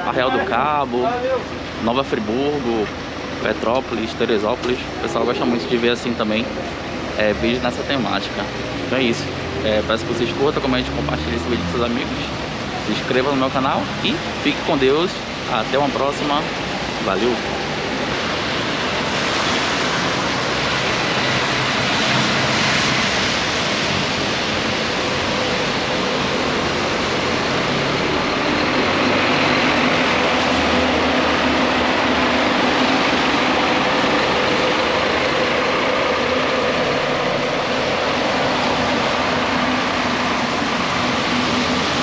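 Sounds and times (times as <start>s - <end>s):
vehicle engine humming: 0.0s - 42.0s.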